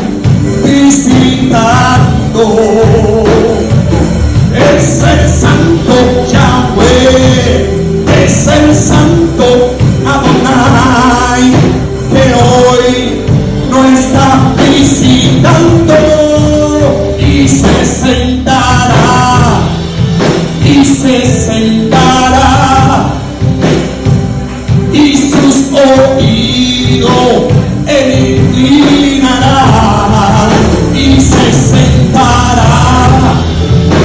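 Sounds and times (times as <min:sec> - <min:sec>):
people singing: 0:00.0 - 0:19.8, 0:20.6 - 0:23.3, 0:24.9 - 0:34.0
band playing: 0:00.0 - 0:34.0.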